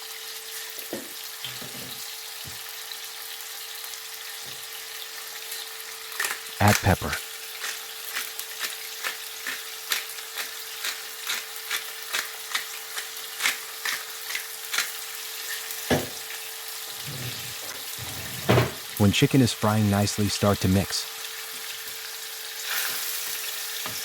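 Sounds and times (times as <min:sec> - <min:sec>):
food sizzling in oil: 0:00.0 - 0:19.0, 0:21.0 - 0:24.0.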